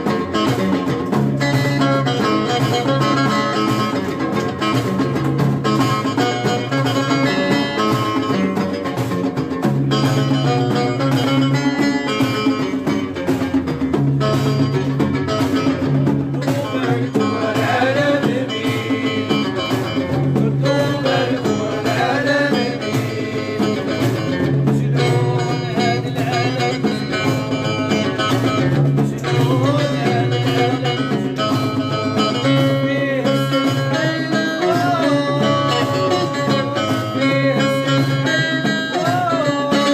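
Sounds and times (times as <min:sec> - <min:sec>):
plucked string instruments: 0:00.0 - 0:39.9.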